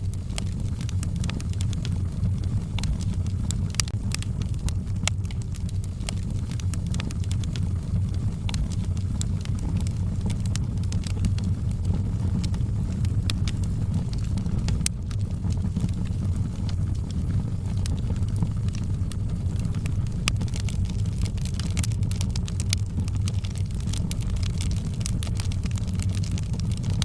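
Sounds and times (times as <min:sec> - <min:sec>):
fire crackling and popping: 0:00.0 - 0:27.0
low rumble of flames: 0:00.0 - 0:27.0.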